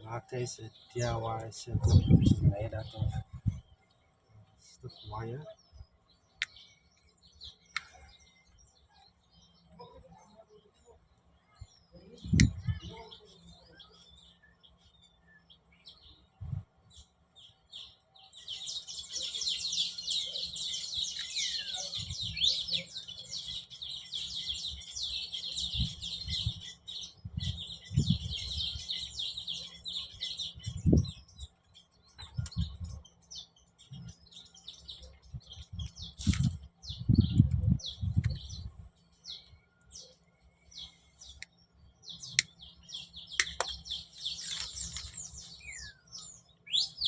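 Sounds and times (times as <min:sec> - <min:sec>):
songbird chirping and trilling: 0:00.0 - 0:47.0.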